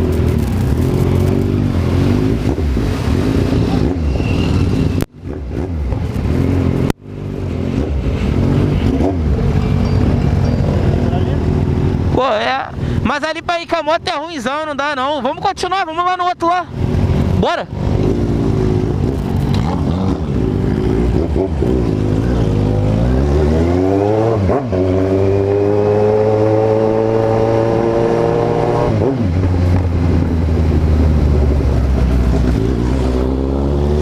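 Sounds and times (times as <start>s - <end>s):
motorcycle engine accelerating: 0.0s - 12.2s, 16.8s - 34.0s.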